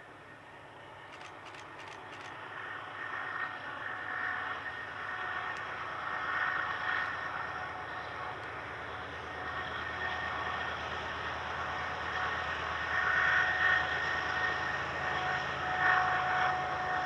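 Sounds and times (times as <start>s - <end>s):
freight train rushing: 0.0s - 17.0s.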